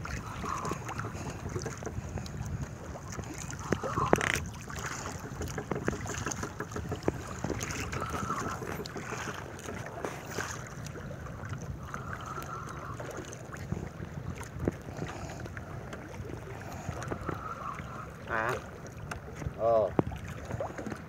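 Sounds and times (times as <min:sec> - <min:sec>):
water slapping boat hull: 0:00.0 - 0:21.0
wind buffeting microphone: 0:00.0 - 0:21.0.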